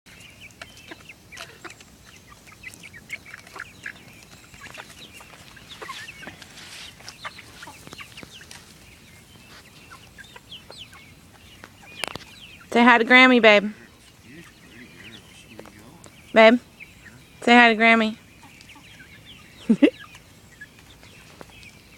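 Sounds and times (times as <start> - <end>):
chickens clucking: 0.1 - 21.9.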